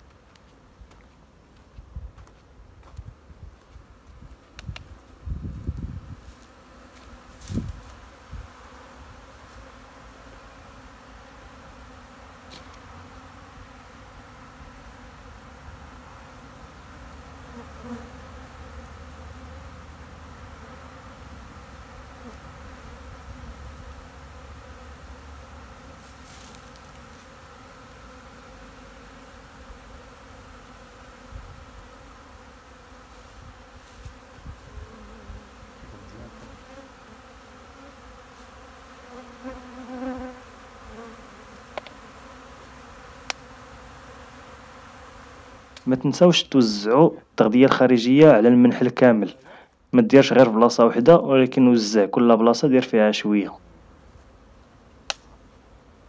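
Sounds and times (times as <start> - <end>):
bees buzzing: 2.8 - 51.0.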